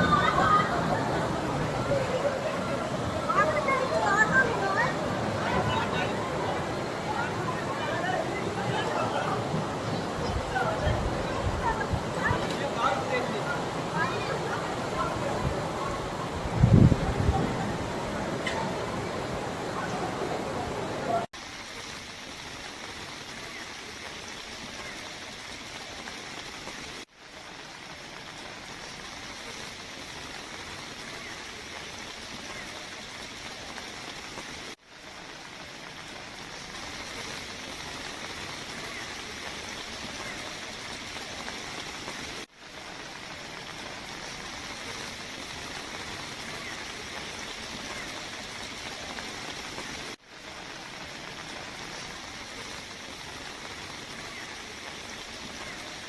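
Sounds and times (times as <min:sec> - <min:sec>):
flowing floodwater: 0:00.0 - 0:56.0
heavy rain: 0:00.0 - 0:56.0.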